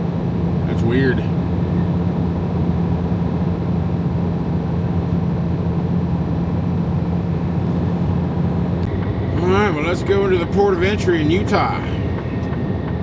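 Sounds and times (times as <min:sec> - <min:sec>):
road and wind noise: 0:00.0 - 0:13.0
truck engine drone: 0:00.0 - 0:13.0.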